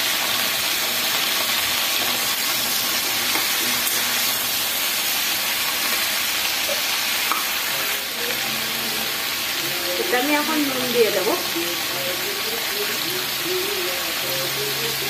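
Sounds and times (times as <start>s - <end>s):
spatula stirring vegetables: 0.0s - 15.0s
vegetables sizzling in a pan: 0.0s - 15.0s.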